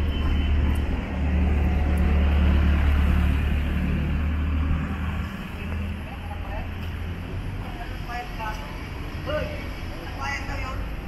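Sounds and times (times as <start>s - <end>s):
street noise: 0.0s - 11.0s
vehicle engine rumbling: 0.0s - 11.0s.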